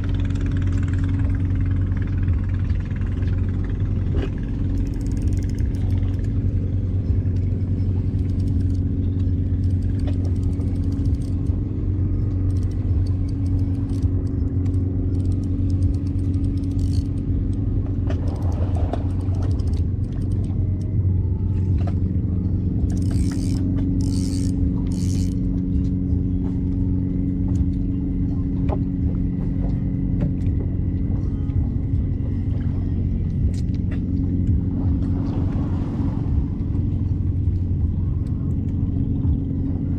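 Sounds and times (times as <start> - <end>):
faint clicks and clatters: 0.0 - 35.6
engine running steadily: 0.0 - 39.9.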